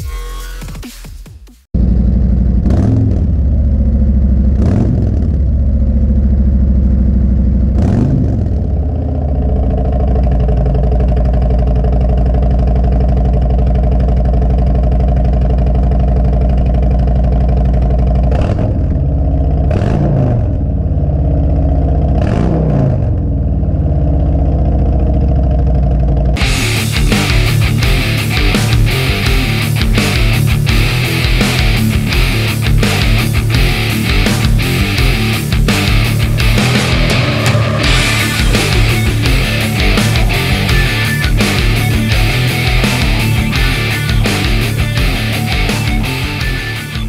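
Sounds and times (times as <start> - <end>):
motorcycle engine idling and revving: 1.5 - 47.0.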